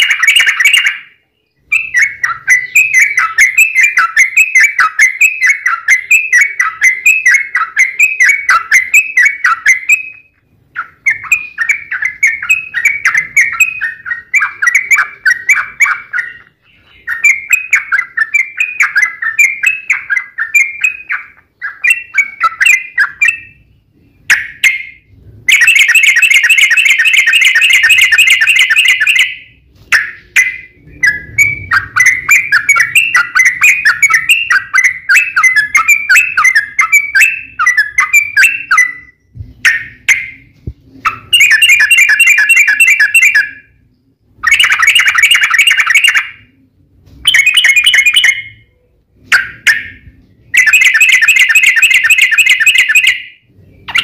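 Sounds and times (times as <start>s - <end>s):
bird rapid trill: 0.0s - 43.8s, 44.4s - 46.6s, 47.2s - 48.7s, 49.3s - 54.0s
bulbul chattering song: 0.0s - 54.0s.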